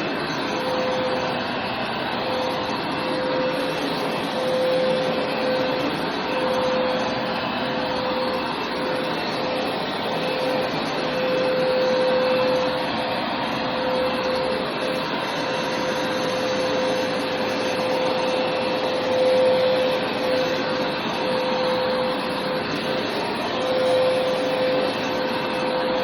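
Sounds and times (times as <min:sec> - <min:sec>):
carpet cleaner motor and suction: 0:00.0 - 0:26.0.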